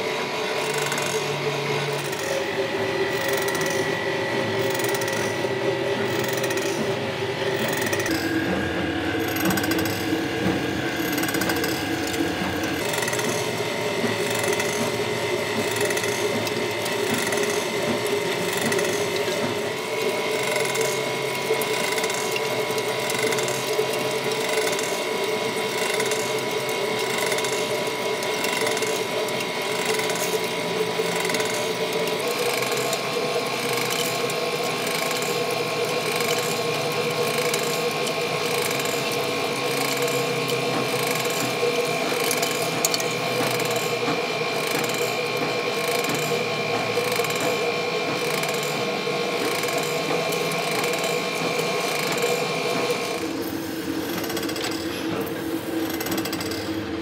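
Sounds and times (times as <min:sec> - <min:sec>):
lathe gears whining: 0:00.0 - 0:57.0
mechanical clatter: 0:09.2 - 0:57.0.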